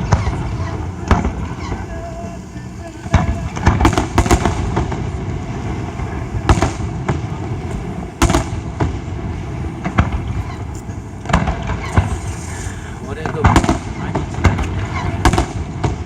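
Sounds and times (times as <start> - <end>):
fireworks shells bursting: 0.0 - 16.0
low rumbling: 0.0 - 16.0.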